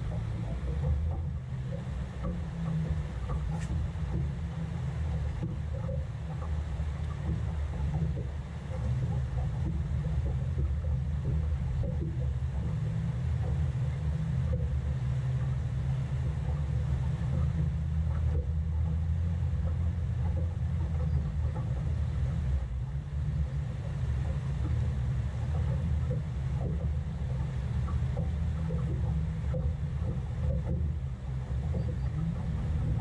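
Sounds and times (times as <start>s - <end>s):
faint ticks: 0.0s - 33.0s
water moving past boat: 0.0s - 33.0s.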